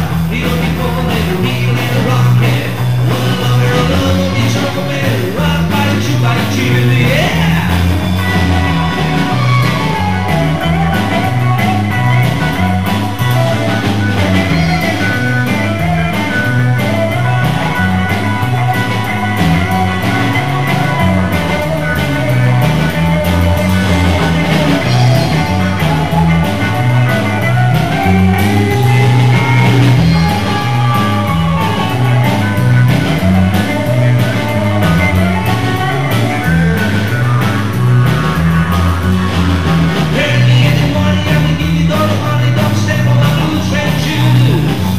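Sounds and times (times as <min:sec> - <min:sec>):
rock and roll band playing: 0:00.0 - 0:44.9.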